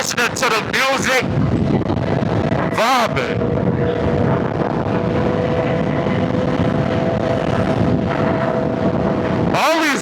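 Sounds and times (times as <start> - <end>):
motorcycle engine running: 1.3 - 9.6.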